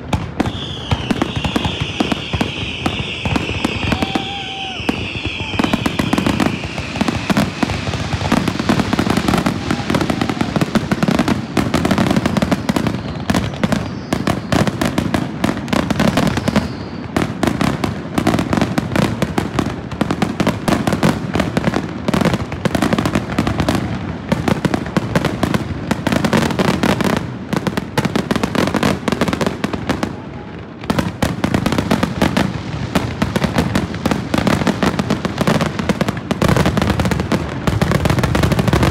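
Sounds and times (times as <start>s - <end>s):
fireworks bursting with loud bangs: 0.0s - 38.9s.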